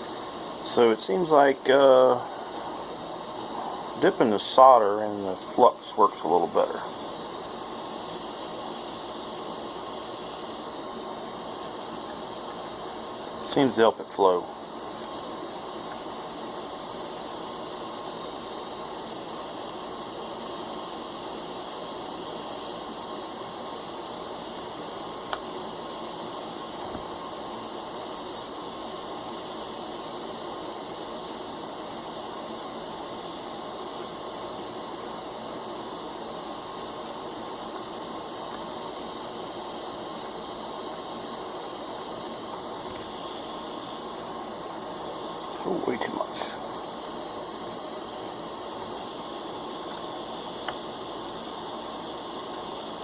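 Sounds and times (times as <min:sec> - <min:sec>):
faint thin steady tones: 0:00.0 - 0:53.0
steady background hiss: 0:00.0 - 0:53.0.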